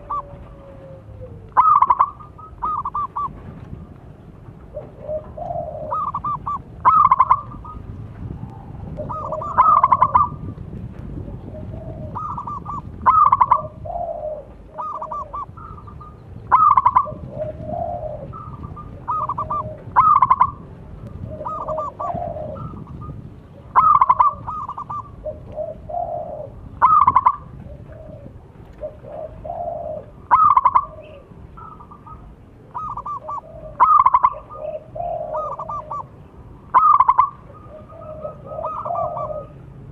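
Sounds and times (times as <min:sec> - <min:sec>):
dove cooing: 0:00.0 - 0:03.9, 0:04.6 - 0:10.6, 0:11.2 - 0:39.9.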